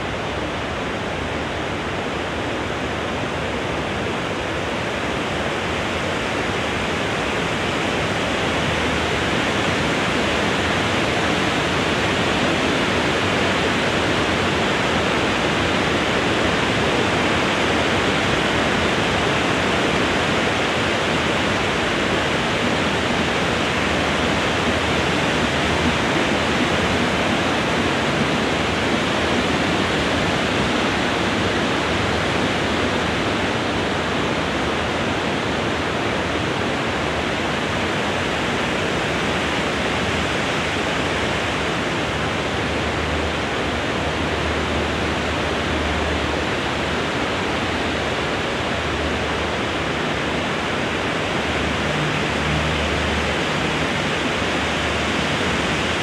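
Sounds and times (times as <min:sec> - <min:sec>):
wind rustling tree leaves: 0:00.0 - 0:56.0.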